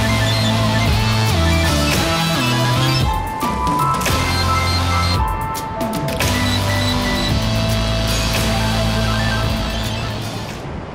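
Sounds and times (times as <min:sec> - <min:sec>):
guitar-like melody: 0:00.0 - 0:10.5.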